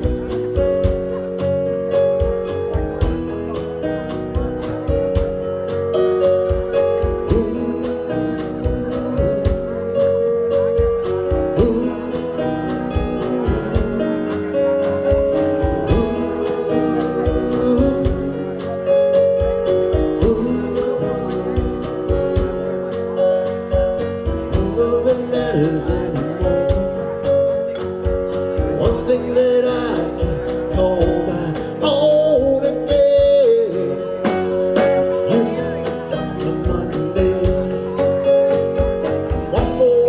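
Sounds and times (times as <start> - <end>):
drums steady beat: 0.0 - 40.0
sustained chords and guitar: 0.0 - 40.0.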